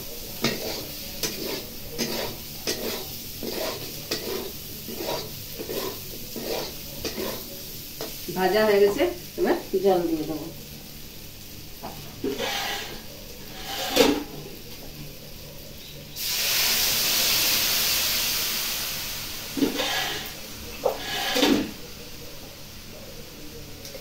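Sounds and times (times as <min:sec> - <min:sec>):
hiss of steam and sizzling: 0:00.0 - 0:24.0.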